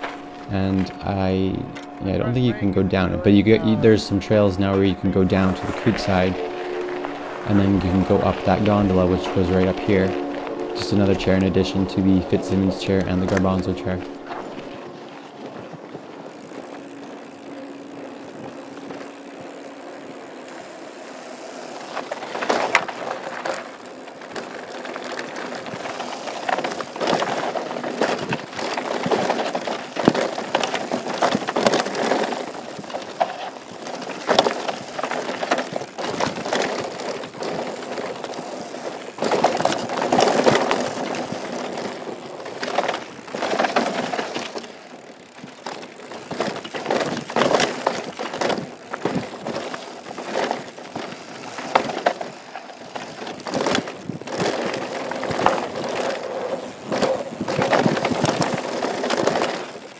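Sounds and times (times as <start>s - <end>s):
bike chain and frame rattling: 0.0s - 59.9s
bike tyres crunching over dirt: 0.0s - 59.9s.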